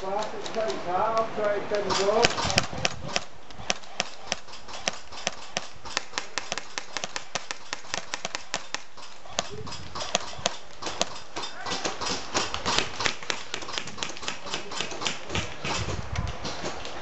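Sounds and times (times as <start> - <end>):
airsoft guns firing: 0.0 - 17.0.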